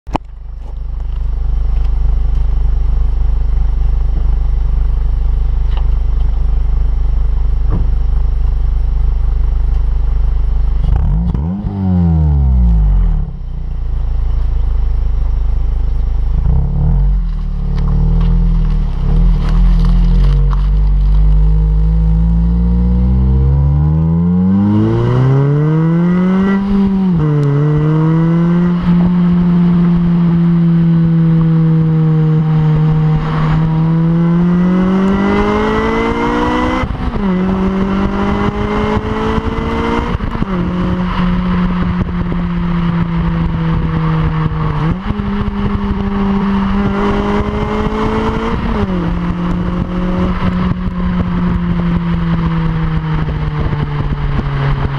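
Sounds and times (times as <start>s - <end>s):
car engine revving and shifting: 0.6s - 54.9s.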